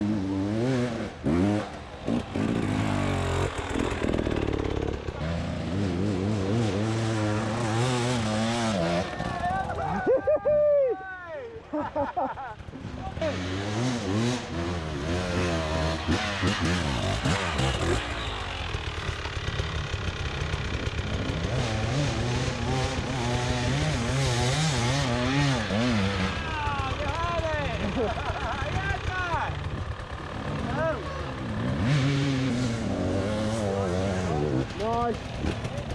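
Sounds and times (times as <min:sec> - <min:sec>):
dirt bike engine revving: 0:00.0 - 0:10.3, 0:11.8 - 0:35.9.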